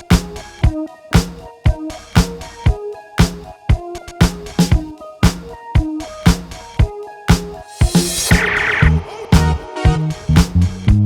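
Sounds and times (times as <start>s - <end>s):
electronic dance music: 0.0s - 10.7s.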